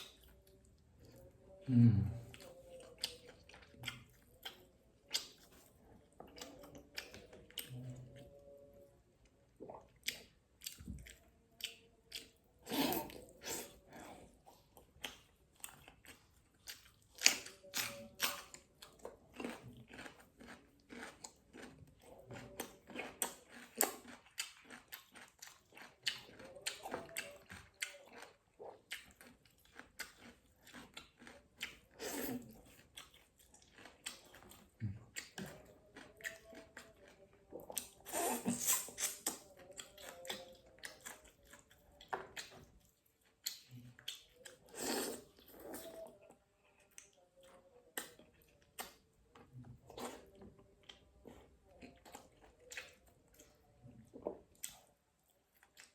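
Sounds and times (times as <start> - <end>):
person chewing: 0.0 - 55.9.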